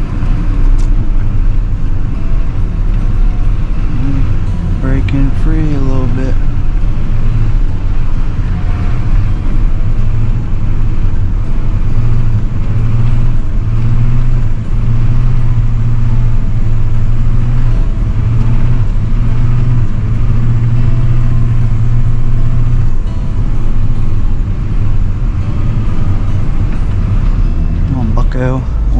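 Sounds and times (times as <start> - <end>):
truck engine droning: 0.0 - 28.9.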